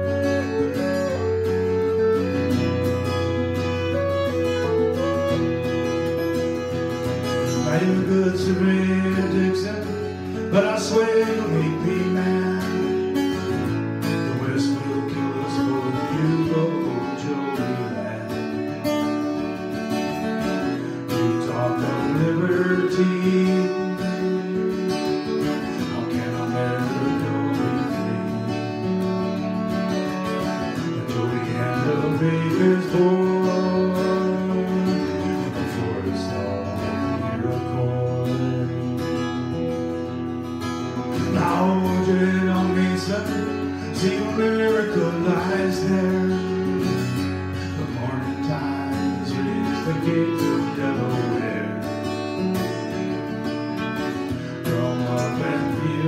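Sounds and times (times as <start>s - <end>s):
acoustic guitar strumming: 0.0s - 56.0s
clarinet melody: 0.0s - 56.0s.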